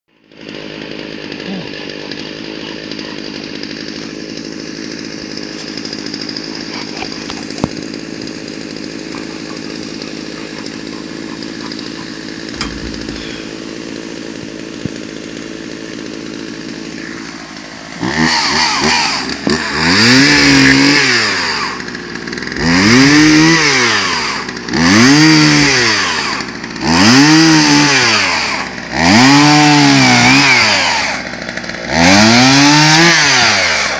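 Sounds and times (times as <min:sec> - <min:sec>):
chainsaw cutting a log: 0:00.1 - 0:33.9.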